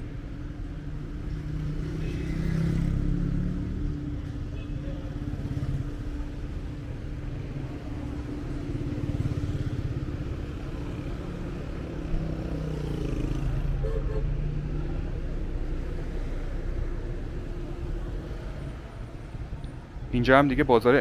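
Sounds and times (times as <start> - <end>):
cars and motorcycles driving past: 0.0 - 21.0.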